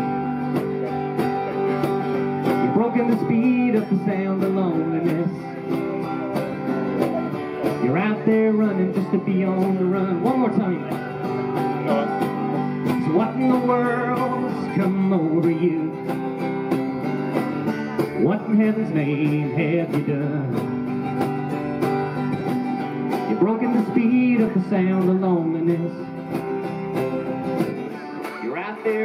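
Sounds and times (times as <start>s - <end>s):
acoustic country band playing: 0.0s - 29.0s.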